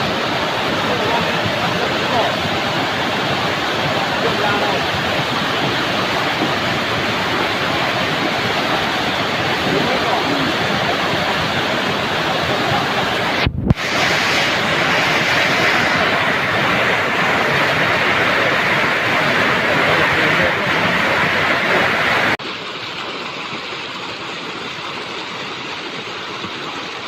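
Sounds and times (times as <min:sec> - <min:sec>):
heavy rain falling: 0:00.0 - 0:22.4.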